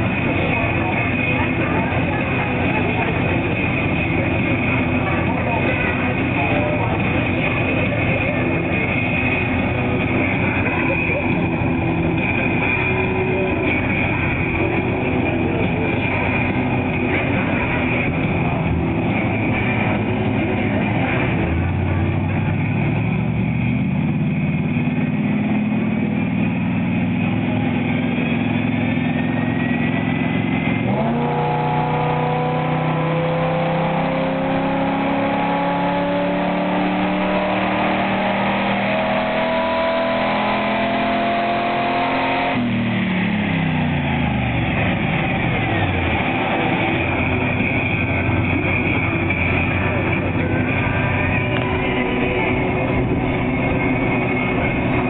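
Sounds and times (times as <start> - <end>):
car engine revving at full throttle: 0.0 - 55.0.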